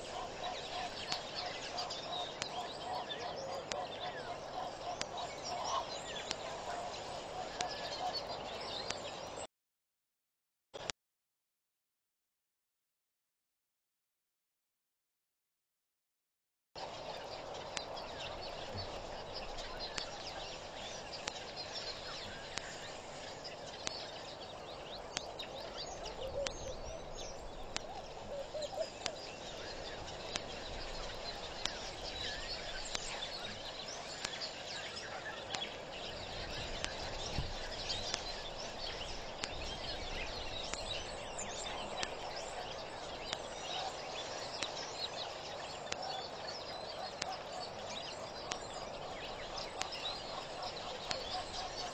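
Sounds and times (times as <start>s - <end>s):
chorus of wild birds calling: 0.0s - 9.5s, 16.8s - 51.9s
low swooping bird calls: 0.0s - 9.5s, 16.8s - 51.9s.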